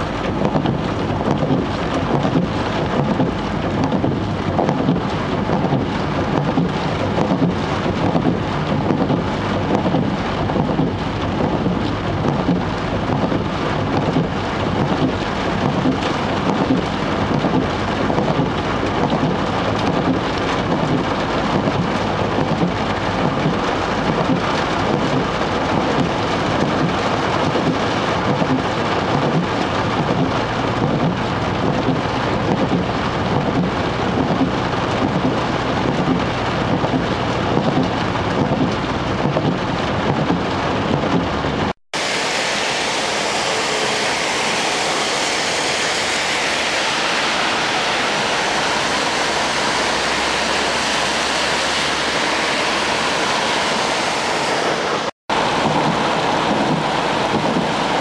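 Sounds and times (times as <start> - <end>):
heavy rain on a car: 0.0 - 58.0
rushing hiss of rain and water: 0.0 - 58.0
tyre and road rumble: 0.0 - 58.0.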